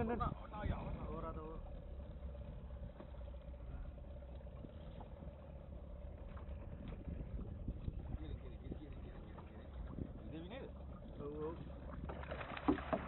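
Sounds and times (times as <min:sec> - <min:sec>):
boat engine humming: 0:00.0 - 0:13.0
water splashing against hull: 0:00.0 - 0:13.0
wind rumble on microphone: 0:00.0 - 0:13.0.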